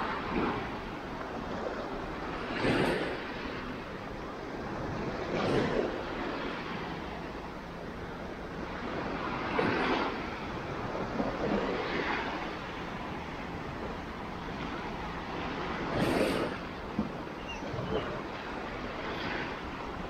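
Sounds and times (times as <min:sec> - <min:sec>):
waves washing onto sandy shore: 0:00.0 - 0:20.0.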